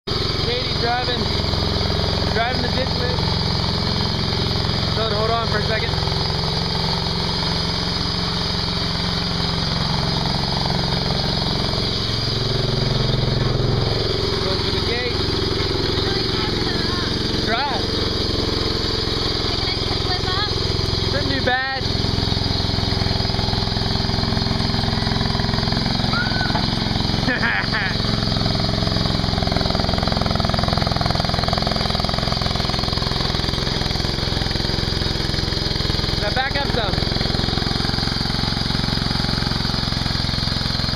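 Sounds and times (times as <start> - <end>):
mini skid steer engine running: 0.0 - 40.9.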